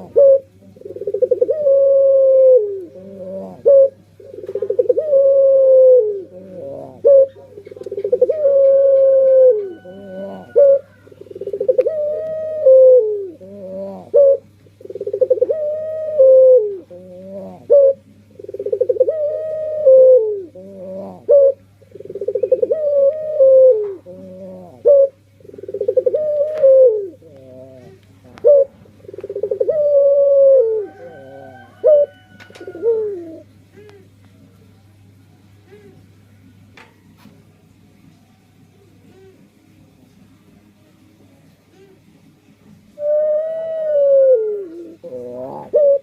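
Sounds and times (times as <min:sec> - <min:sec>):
dove cooing: 0:00.0 - 0:34.2, 0:35.6 - 0:36.1, 0:39.0 - 0:39.6, 0:42.9 - 0:46.0
faint electrical hum: 0:00.0 - 0:46.0.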